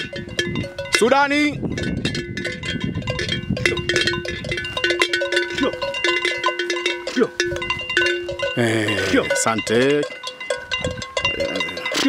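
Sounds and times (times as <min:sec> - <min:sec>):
cow bell clanking: 0:00.0 - 0:12.0.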